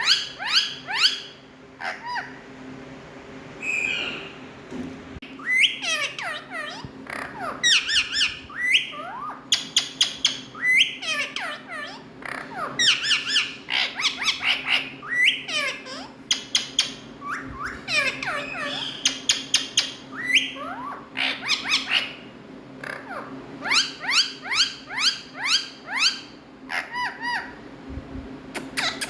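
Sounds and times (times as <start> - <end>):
parakeets chirping and squawking: 0.0 - 2.6, 3.6 - 4.5, 5.2 - 27.7, 28.6 - 29.0.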